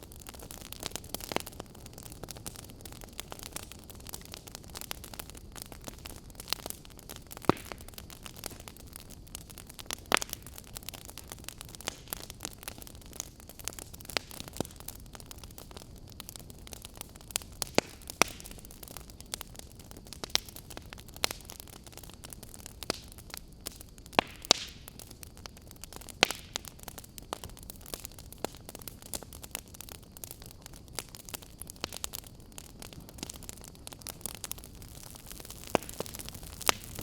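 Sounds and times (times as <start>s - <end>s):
fire popping and snapping: 0.0s - 37.0s
soft steady fire hiss: 0.0s - 37.0s.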